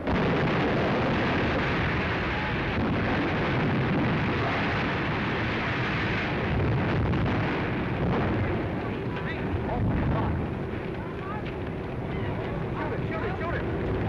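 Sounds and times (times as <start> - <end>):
roar of explosion and flames: 0.0 - 14.0.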